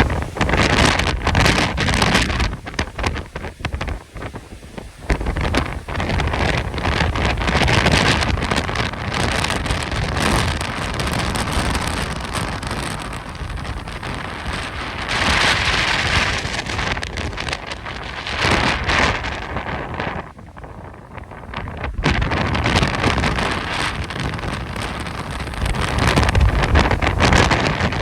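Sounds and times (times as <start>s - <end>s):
strong gusting wind: 0.0s - 28.0s
wind buffeting microphone: 0.0s - 28.0s.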